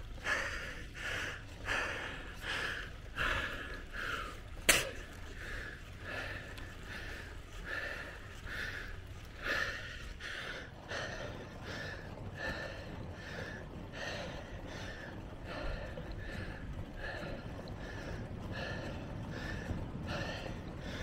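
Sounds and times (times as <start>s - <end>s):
cyclist breathing hard: 0.0s - 21.0s
wind and road noise: 0.0s - 21.0s.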